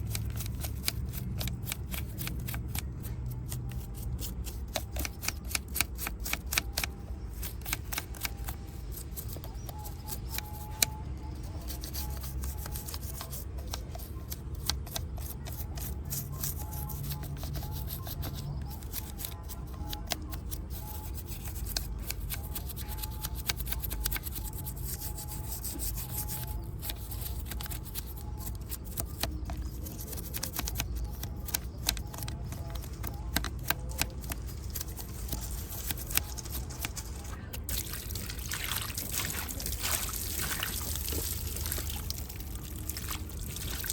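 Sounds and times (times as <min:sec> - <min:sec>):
small clicks and scrapes: 0:00.0 - 0:37.7.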